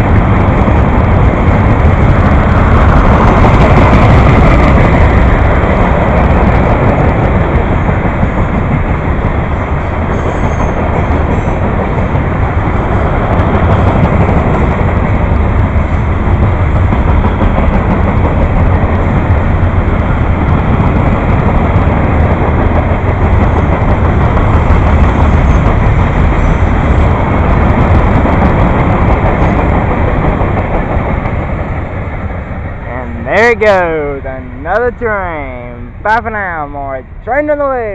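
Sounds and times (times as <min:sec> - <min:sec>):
train wheels rolling on rails: 0:00.0 - 0:37.9.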